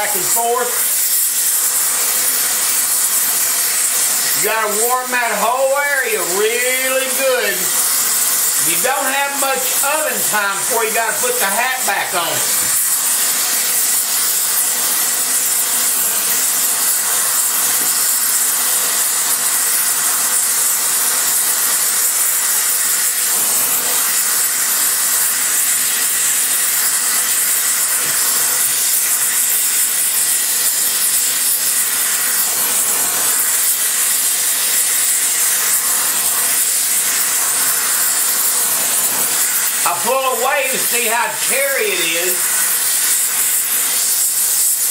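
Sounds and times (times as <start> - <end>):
welding torch flame hissing: 0.0 - 44.9.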